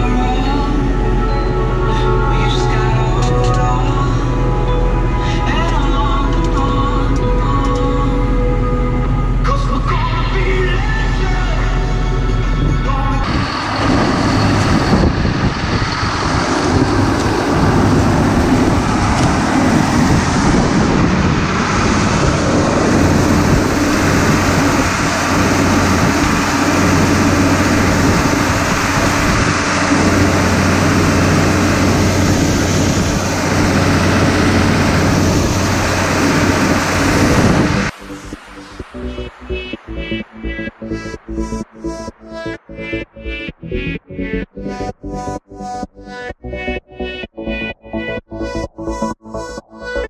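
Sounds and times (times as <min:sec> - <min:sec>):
tractor and combine engines running: 0:00.0 - 0:50.0.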